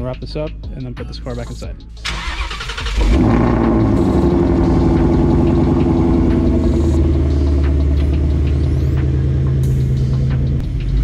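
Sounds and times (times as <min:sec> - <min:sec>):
car engine starting and idling: 0:02.0 - 0:11.0.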